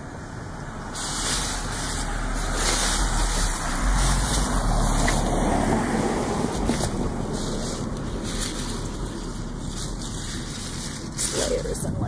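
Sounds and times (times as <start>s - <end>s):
wind buffeting microphone: 0.6s - 12.0s.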